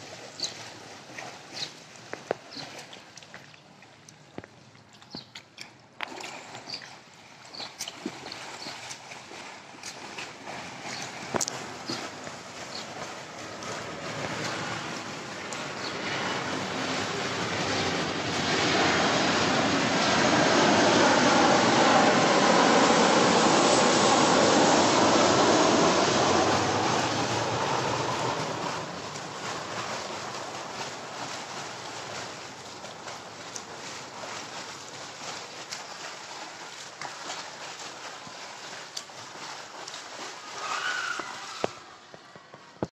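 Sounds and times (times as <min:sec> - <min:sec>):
swimmer splashing: 0:00.0 - 0:42.9
aircraft passing overhead: 0:08.0 - 0:42.4.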